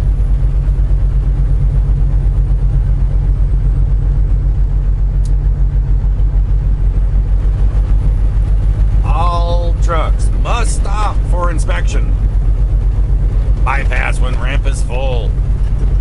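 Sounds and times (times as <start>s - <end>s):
truck diesel engine pulling: 0.0s - 16.0s.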